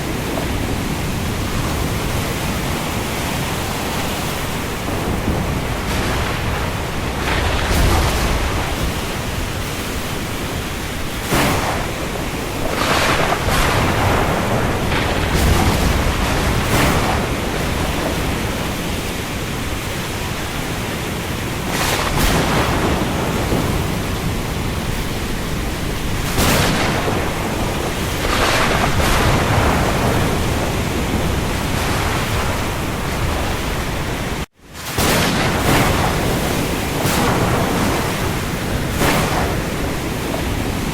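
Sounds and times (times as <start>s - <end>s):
heavy rain on sea: 0.0s - 40.9s
waves splashing: 0.0s - 40.9s.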